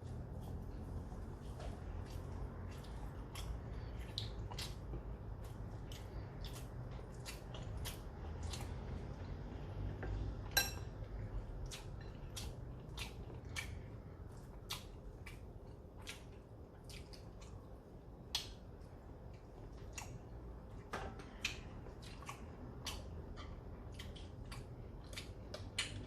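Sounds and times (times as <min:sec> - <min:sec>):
soft chewing: 0:00.0 - 0:26.0.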